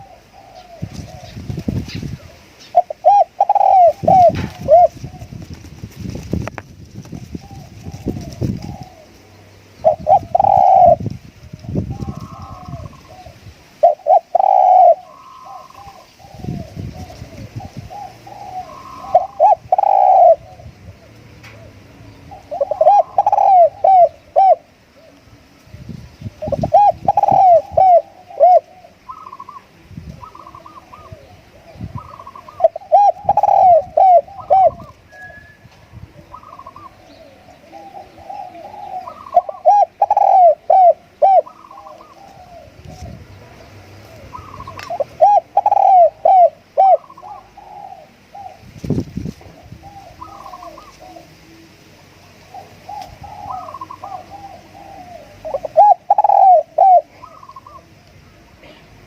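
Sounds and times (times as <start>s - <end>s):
dove cooing: 0.0s - 5.6s, 7.0s - 59.0s.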